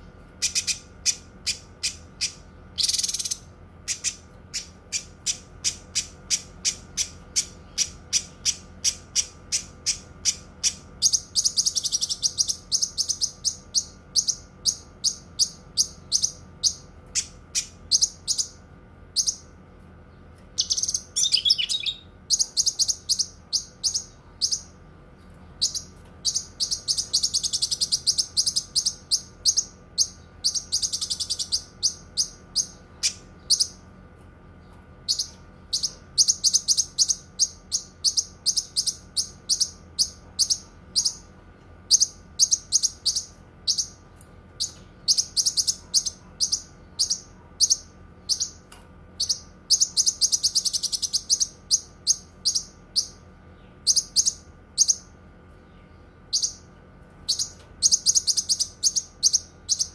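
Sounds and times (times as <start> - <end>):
bird singing high chirps and trills: 0.0 - 33.9, 34.6 - 59.9
faint steady hum: 0.0 - 59.9.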